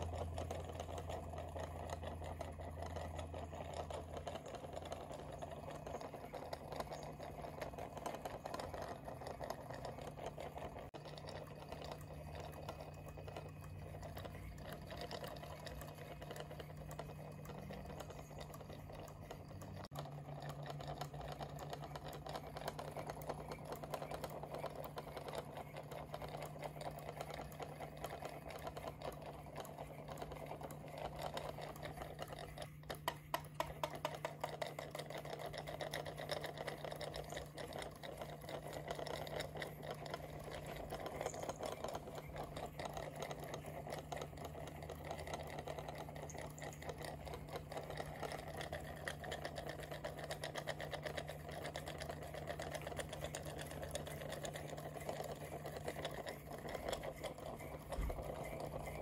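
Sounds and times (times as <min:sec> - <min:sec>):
stirling engine ticking: 0:00.0 - 0:59.0.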